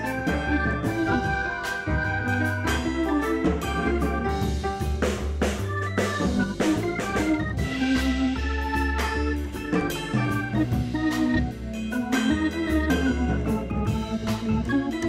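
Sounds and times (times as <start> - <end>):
bass line: 0.0 - 15.0
drums keeping a beat: 0.0 - 15.0
organ-like chords: 0.0 - 15.0.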